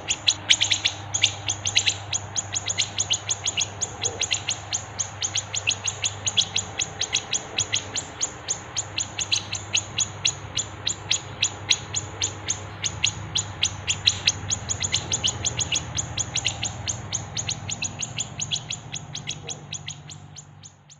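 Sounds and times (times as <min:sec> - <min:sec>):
songbird chirping rapidly: 0:00.0 - 0:20.9.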